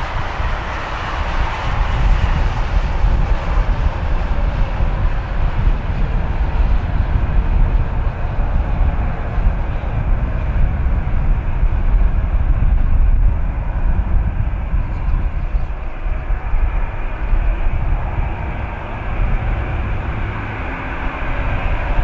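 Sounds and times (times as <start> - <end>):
distant jet airliner engine: 0.0 - 22.0
wind buffeting microphone: 0.0 - 22.0.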